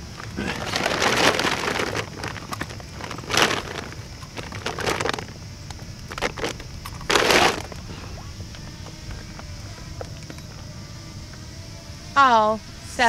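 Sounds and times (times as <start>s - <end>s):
plastic bag rustling and crinkling: 0.0s - 10.6s.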